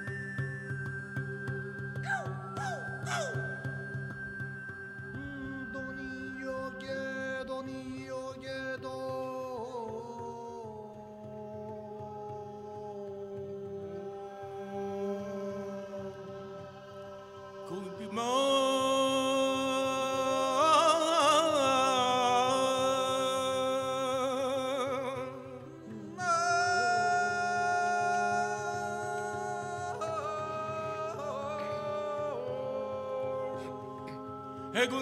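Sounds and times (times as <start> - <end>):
man singing: 2.0 - 3.7, 5.1 - 35.0.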